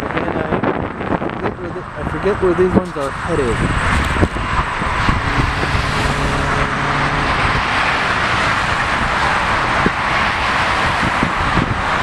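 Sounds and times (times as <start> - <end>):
road traffic: 0.0 - 12.0
jet engines: 1.8 - 12.0.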